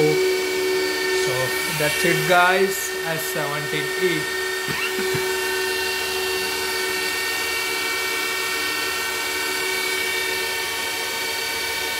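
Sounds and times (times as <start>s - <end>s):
cooling fans whining: 0.0s - 11.9s.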